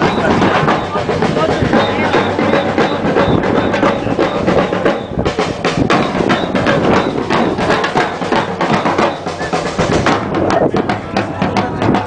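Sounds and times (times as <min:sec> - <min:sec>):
bass drums: 0:00.0 - 0:12.0
hand drum and wood block hits: 0:00.0 - 0:12.0
samba percussion drumming: 0:00.0 - 0:12.0.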